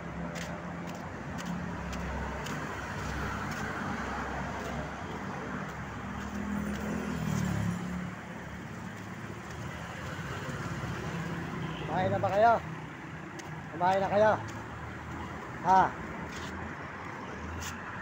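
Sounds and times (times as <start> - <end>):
traffic passing on road: 0.0 - 18.0.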